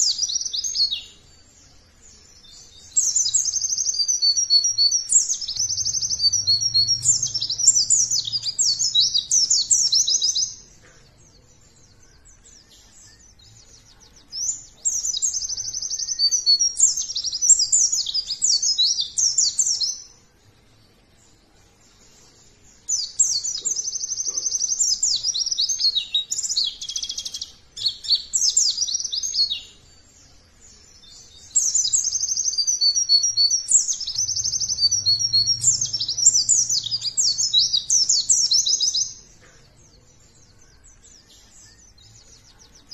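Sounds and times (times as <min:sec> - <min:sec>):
bird twittering song: 0:00.0 - 0:42.9.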